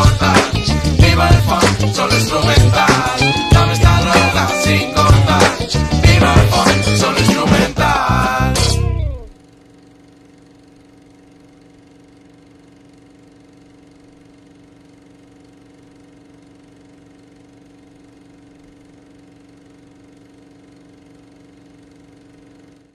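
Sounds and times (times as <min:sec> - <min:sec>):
electronic buzzing hum: 0:00.0 - 0:22.9.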